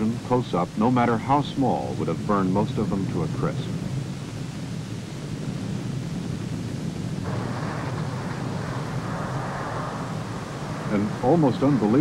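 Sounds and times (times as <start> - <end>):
bright hissing rush: 0.0 - 12.0
low rushing roar: 0.0 - 12.0.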